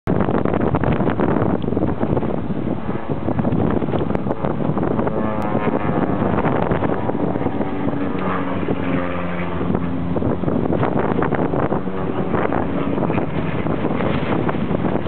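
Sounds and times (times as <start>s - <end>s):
wind buffeting microphone: 0.0s - 15.0s
engine drone: 0.1s - 15.0s
humming engine tone: 0.2s - 15.0s.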